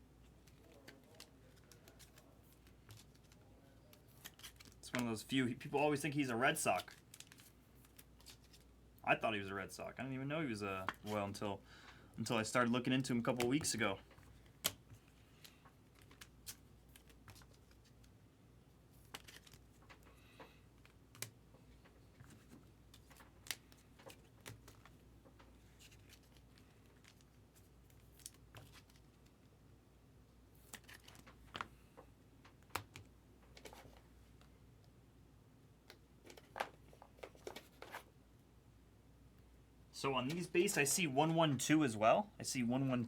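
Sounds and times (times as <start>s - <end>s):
trading cards being handled: 0.2s - 9.2s, 10.6s - 11.5s, 12.3s - 18.2s, 18.9s - 29.6s, 30.6s - 34.5s, 35.8s - 38.1s, 40.0s - 41.8s.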